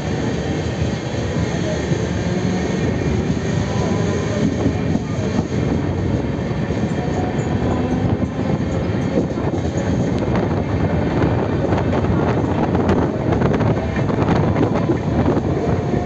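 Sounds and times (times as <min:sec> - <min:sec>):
train rumbling and clattering: 0:00.0 - 0:16.0.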